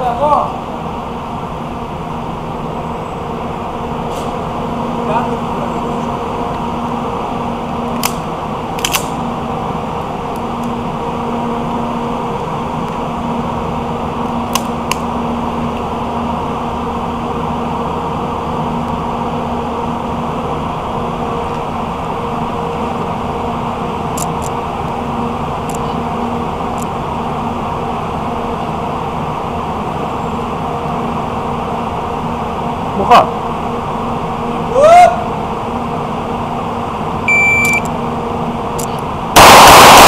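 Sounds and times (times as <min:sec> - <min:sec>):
machine hum with low drone: 0:00.0 - 0:40.0.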